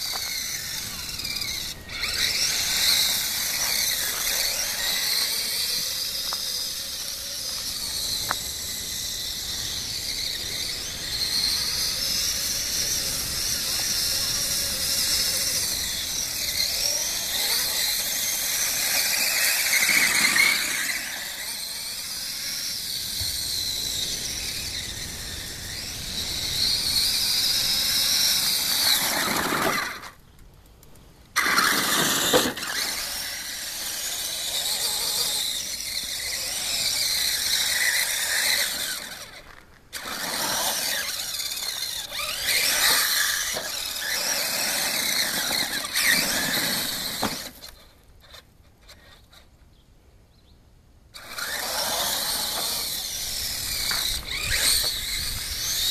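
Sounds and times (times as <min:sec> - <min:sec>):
electric motors whining: 0:00.0 - 0:30.2, 0:31.3 - 0:49.4, 0:51.2 - 0:55.9.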